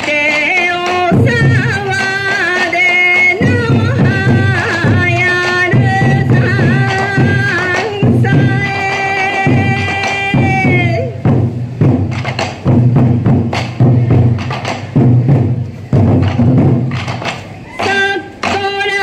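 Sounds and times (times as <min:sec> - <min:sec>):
taiko drums beating: 0:00.3 - 0:19.0.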